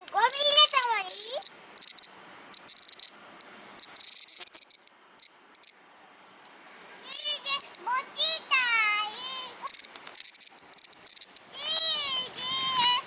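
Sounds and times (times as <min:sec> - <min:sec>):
cicadas buzzing: 0:00.0 - 0:13.0.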